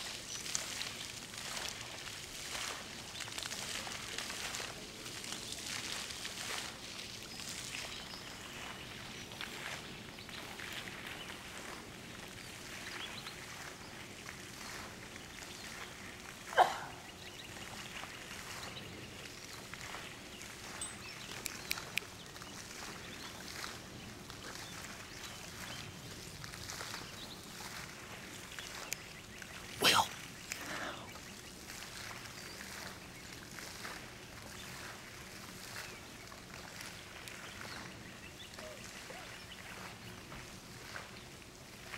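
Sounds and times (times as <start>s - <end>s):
quiet outdoor ambience: 0.0s - 41.9s.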